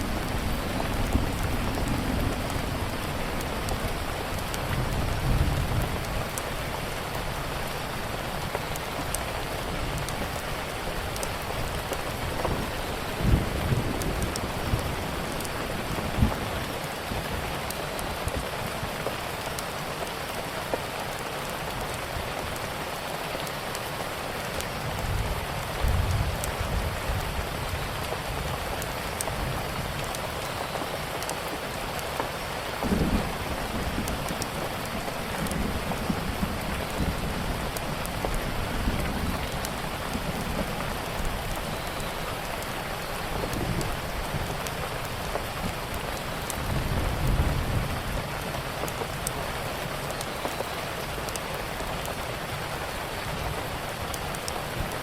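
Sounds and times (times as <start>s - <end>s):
wood fire crackling: 0.0s - 22.7s, 23.4s - 55.0s
steady rain falling: 0.0s - 55.0s.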